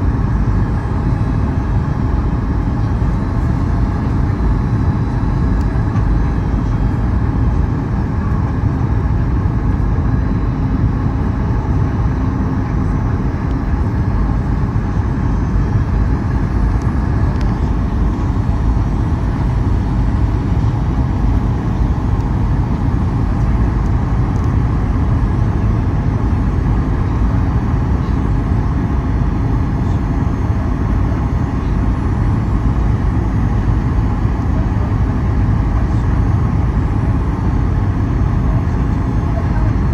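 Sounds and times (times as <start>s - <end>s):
airliner cabin engine rumble: 0.0s - 39.9s
faint steady whine: 0.0s - 39.9s.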